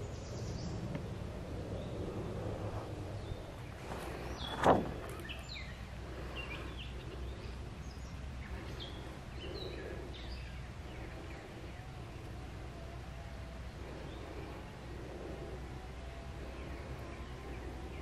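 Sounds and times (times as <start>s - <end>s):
low outdoor rumble: 0.0s - 18.0s
small birds chirping: 0.0s - 18.0s.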